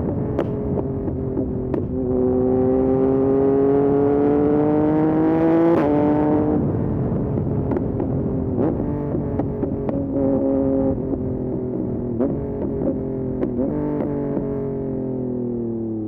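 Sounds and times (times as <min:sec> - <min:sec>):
motorcycle engine revving: 0:00.0 - 0:15.3.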